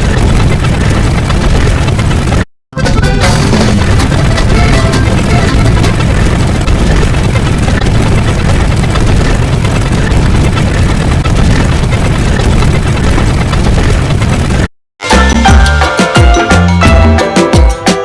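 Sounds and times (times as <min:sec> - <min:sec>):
loud low rumbling: 0:00.0 - 0:15.6.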